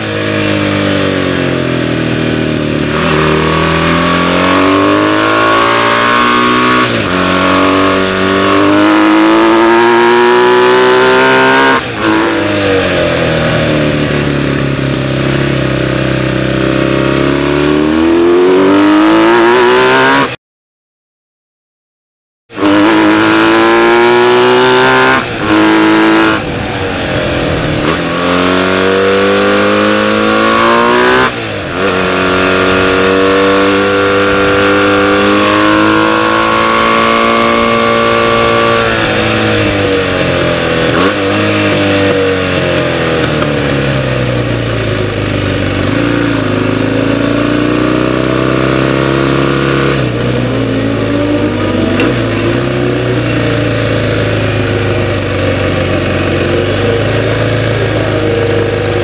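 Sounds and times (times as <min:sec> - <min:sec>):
motorcycle engine revving: 0:00.0 - 0:20.4, 0:22.5 - 0:59.0.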